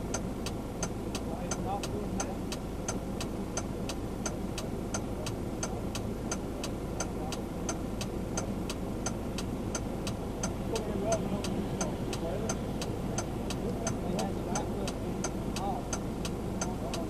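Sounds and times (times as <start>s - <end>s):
engine and road hum: 0.0s - 17.0s
turn signal ticking: 0.0s - 17.0s.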